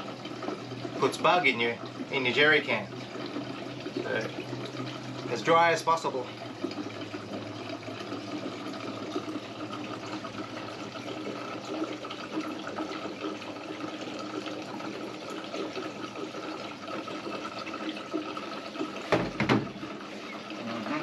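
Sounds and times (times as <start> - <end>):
fuel pouring into a can: 0.0 - 20.7.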